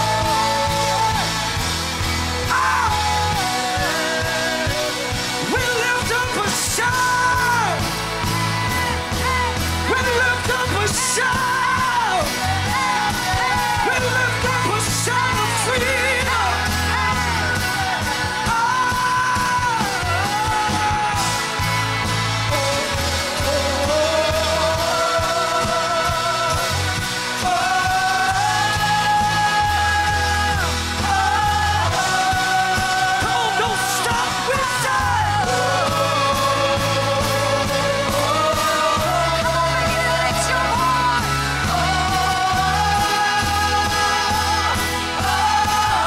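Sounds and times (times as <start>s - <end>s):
electric guitar: 0.0s - 46.0s
singers holding long notes: 0.0s - 46.0s.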